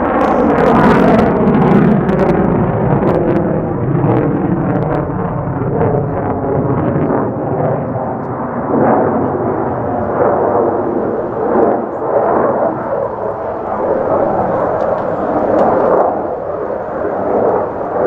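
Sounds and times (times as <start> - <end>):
jet engine rumble with crackle: 0.0 - 18.0.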